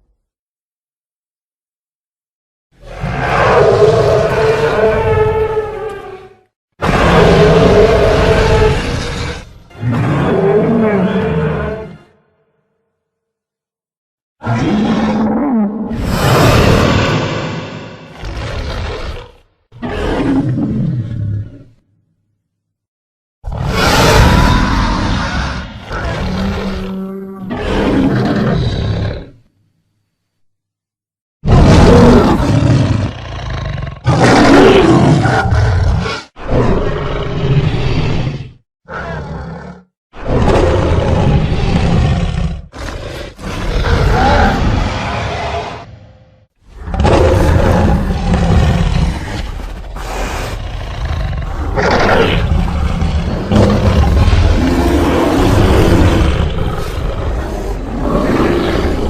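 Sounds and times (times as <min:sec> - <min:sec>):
creature snarl: 0:02.8 - 0:12.2, 0:14.4 - 0:21.7, 0:23.4 - 0:29.4, 0:31.4 - 0:59.0
deep dinosaur roars: 0:02.8 - 0:12.2, 0:14.4 - 0:21.8, 0:23.4 - 0:29.5, 0:31.4 - 0:59.0.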